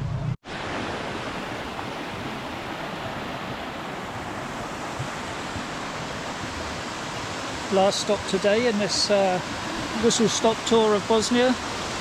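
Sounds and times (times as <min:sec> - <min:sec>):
fast-flowing river water: 0:00.5 - 0:12.0.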